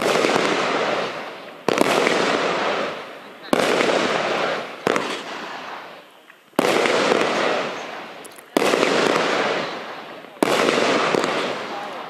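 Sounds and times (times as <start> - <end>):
firework shots banging: 0.0 - 12.0.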